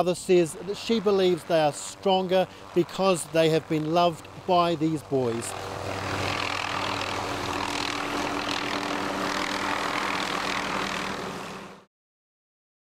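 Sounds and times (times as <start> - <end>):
helicopter in flight: 0.0 - 11.9.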